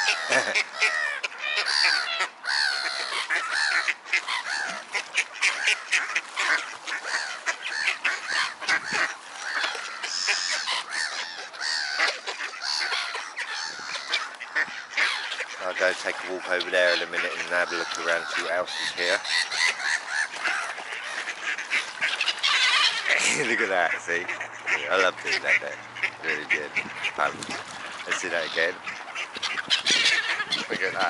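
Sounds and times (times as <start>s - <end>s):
waterfowl squawking and honking: 0.0s - 31.0s.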